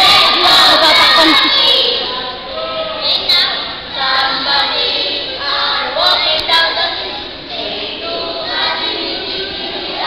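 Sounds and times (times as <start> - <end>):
children singing together: 0.0 - 10.0.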